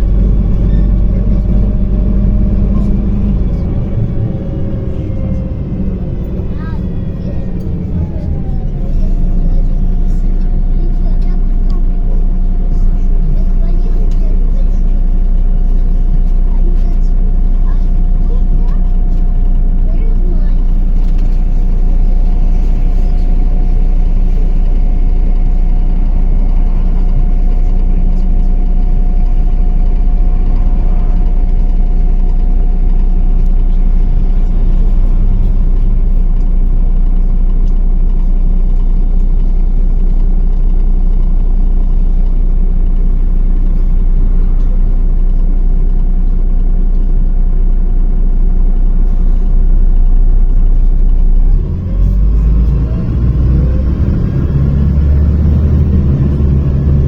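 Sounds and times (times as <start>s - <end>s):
bus diesel drone: 0.0s - 57.0s.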